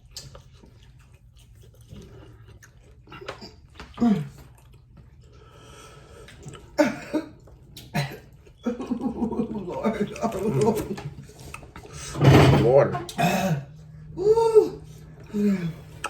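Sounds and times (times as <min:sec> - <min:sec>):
close-up chewing and mouth noises: 0:00.0 - 0:12.2, 0:13.1 - 0:16.0.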